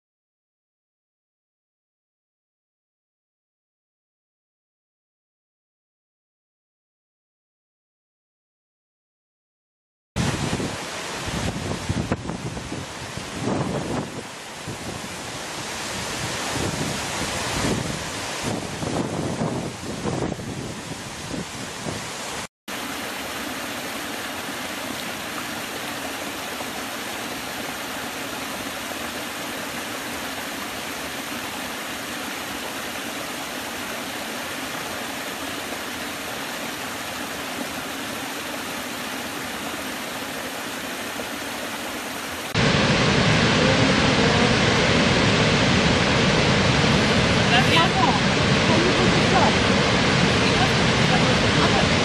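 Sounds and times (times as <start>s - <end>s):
massive waterfall rushing: 10.2s - 52.0s.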